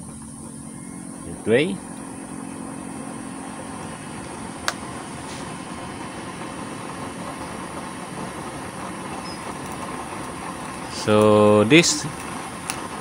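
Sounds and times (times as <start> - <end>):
blower fan running: 0.0 - 13.0.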